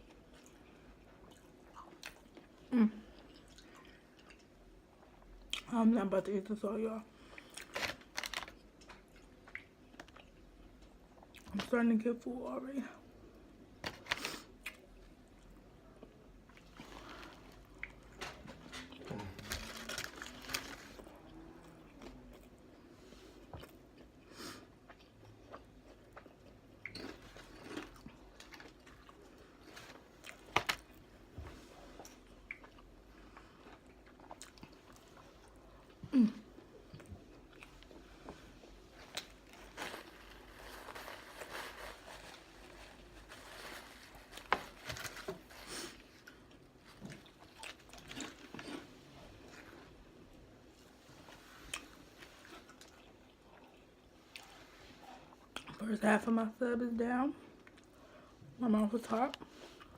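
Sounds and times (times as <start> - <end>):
person chewing a sandwich: 0.0 - 5.7, 7.2 - 11.5, 13.4 - 55.8, 57.5 - 58.4.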